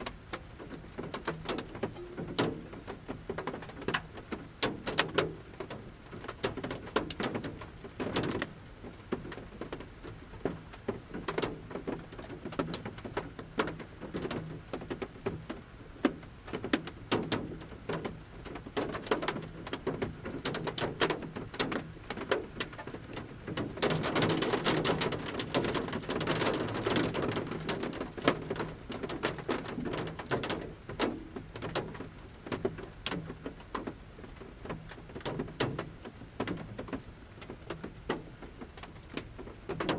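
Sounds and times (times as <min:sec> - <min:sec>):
raindrops on a metal roof: 0:00.0 - 0:39.9.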